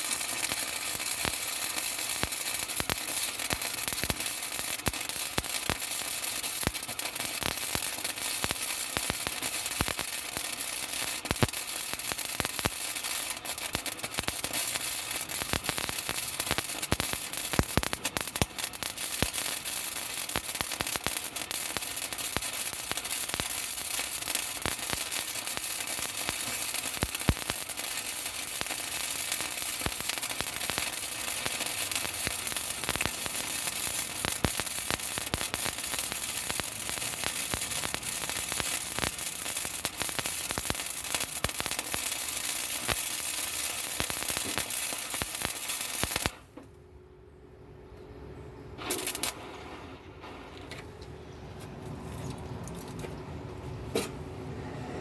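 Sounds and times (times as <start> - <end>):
welder arc crackling: 0.0 - 46.7, 48.8 - 53.2.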